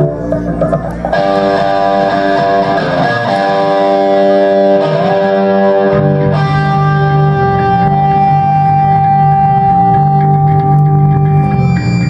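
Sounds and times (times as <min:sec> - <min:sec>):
bass guitar: 0:00.0 - 0:12.0
distorted electric guitar: 0:00.0 - 0:12.0
live rock band playing: 0:00.0 - 0:12.0.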